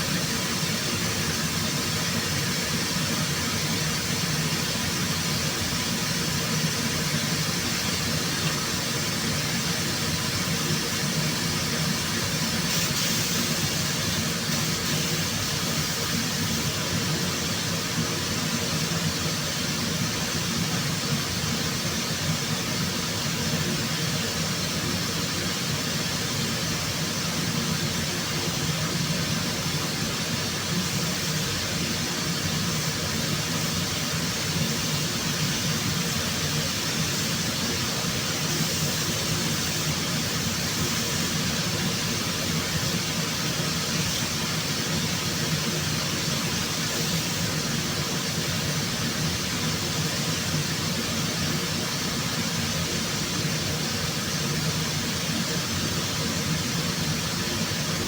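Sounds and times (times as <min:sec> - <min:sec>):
steady machine hiss: 0:00.0 - 0:58.0.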